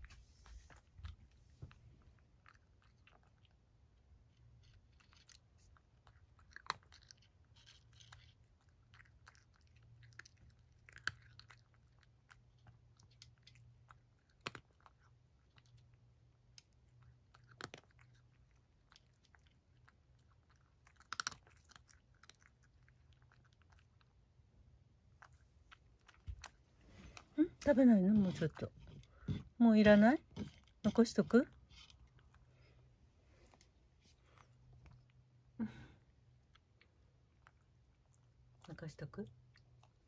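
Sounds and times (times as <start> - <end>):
kibble crunching: 0.0 - 24.4, 25.0 - 35.5
cat chewing dry kibble: 0.0 - 40.0.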